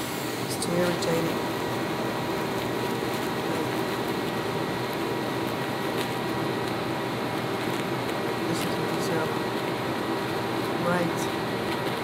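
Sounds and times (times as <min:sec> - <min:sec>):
electric fan whirring: 0:00.0 - 0:12.0.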